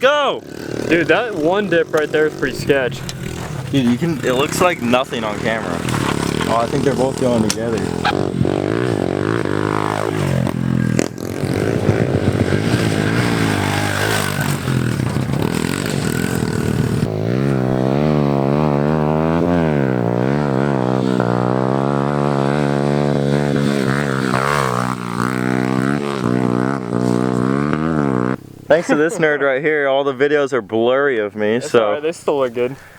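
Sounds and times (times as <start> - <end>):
pit bike engines revving: 0.0 - 32.9.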